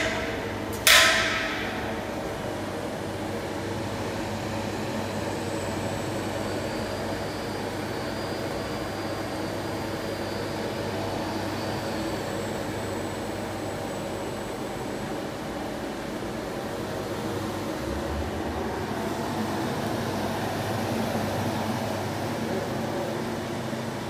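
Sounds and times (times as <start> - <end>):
machine humming: 0.0 - 24.0
faint high whine: 1.6 - 24.0.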